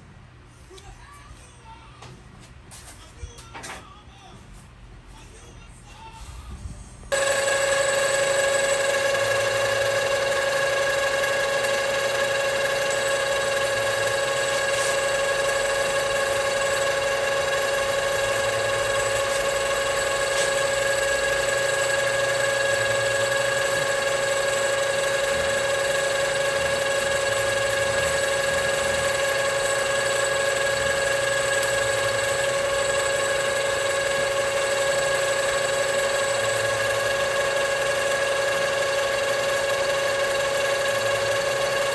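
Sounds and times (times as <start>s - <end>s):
machine whining: 7.1s - 41.9s.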